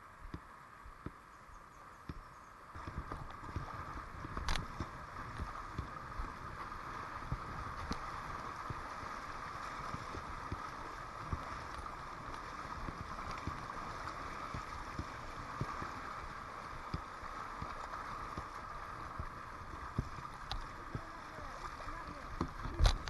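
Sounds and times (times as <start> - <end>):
river water rushing: 2.8 - 23.0.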